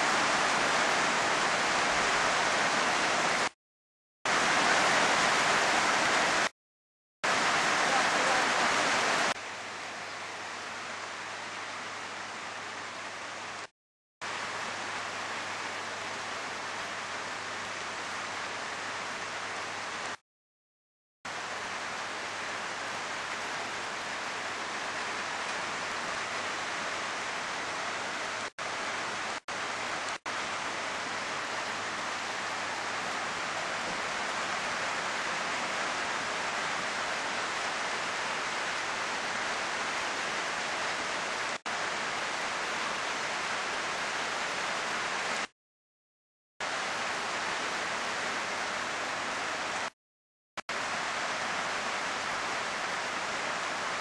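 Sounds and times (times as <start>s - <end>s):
heavy rain: 0.0s - 3.6s, 4.3s - 6.5s, 7.2s - 20.2s, 21.3s - 45.5s, 46.6s - 50.0s, 50.7s - 54.0s.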